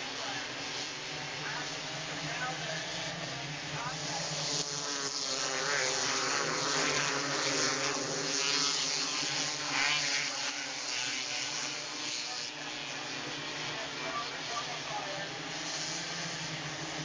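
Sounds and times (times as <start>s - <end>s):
sprint car engines racing: 0.0s - 17.0s.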